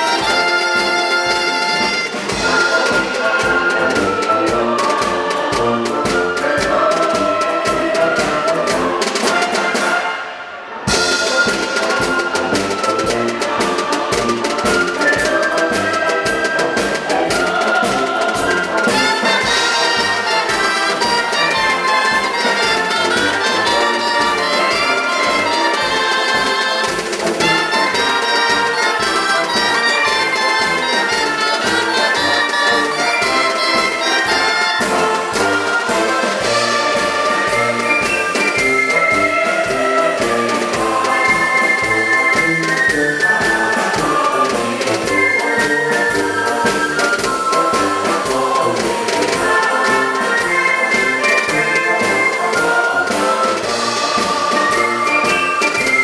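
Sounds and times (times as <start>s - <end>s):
drum kit: 0.0s - 10.1s, 10.9s - 56.0s
pipe and wind band march: 0.0s - 56.0s
tuba: 0.0s - 56.0s.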